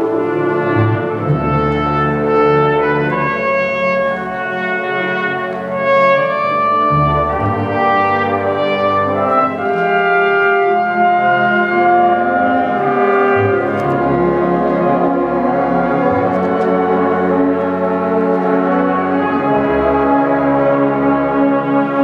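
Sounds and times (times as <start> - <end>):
brass held chords: 0.0 - 22.0
concert band playing: 0.0 - 22.0.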